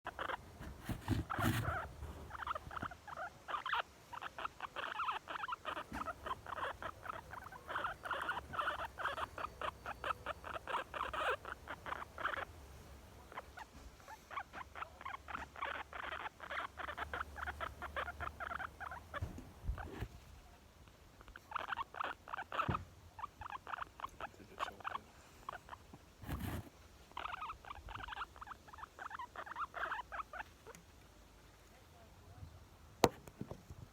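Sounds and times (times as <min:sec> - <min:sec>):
guinea pig squeaking: 0:00.1 - 0:20.2, 0:21.1 - 0:30.8.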